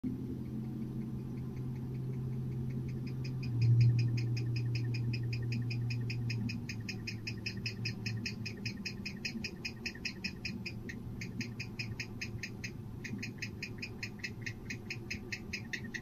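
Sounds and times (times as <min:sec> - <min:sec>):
low electrical hum: 0:00.0 - 0:16.0
barn owl calling: 0:00.2 - 0:16.0.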